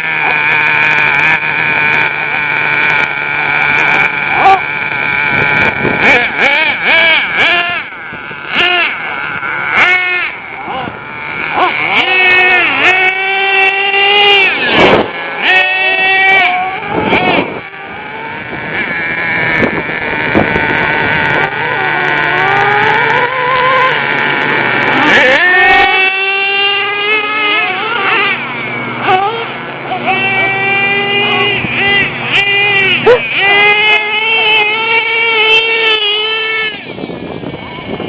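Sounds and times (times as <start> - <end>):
rc truck engines revving: 0.0 - 38.0.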